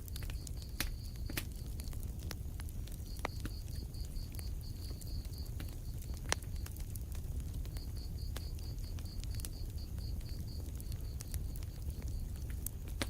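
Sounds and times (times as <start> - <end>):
low rumble of burning: 0.0 - 13.0
wood fire crackling: 0.0 - 13.0.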